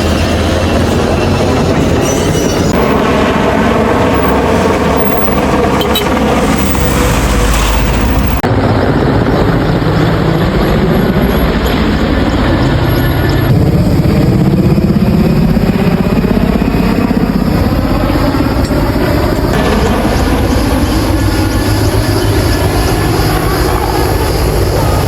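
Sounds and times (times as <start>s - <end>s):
loud engine noise: 0.0s - 25.0s.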